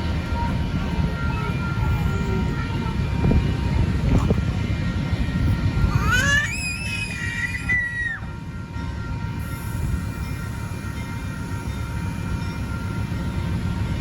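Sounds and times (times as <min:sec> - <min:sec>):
train horn blast: 0:00.0 - 0:06.0, 0:08.2 - 0:14.0
train rumbling on rails: 0:00.0 - 0:14.0.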